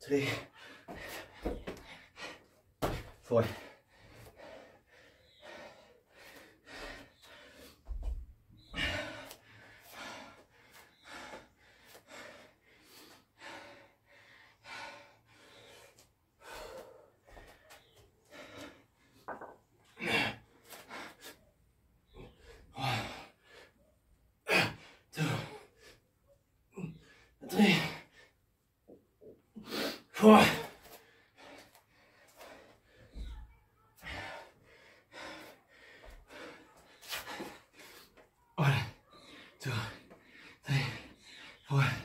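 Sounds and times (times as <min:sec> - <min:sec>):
man panting hard: 0:00.0 - 0:19.2, 0:19.9 - 0:28.4, 0:29.5 - 0:33.3, 0:34.0 - 0:42.0.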